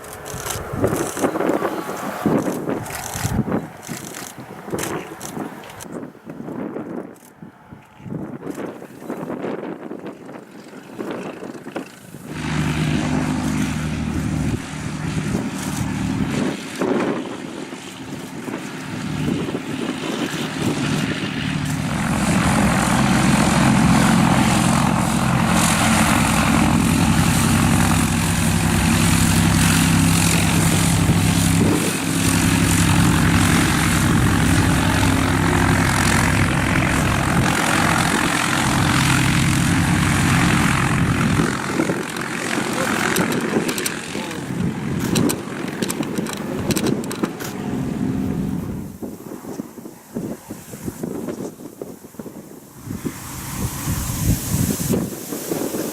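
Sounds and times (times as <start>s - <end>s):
propeller airplane engine droning: 0.0s - 55.9s.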